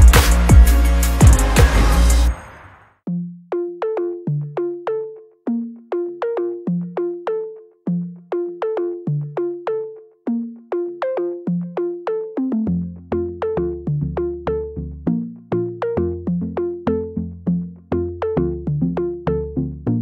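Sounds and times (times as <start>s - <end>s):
plucked synthesizer tune: 0.0s - 2.5s, 3.1s - 20.0s.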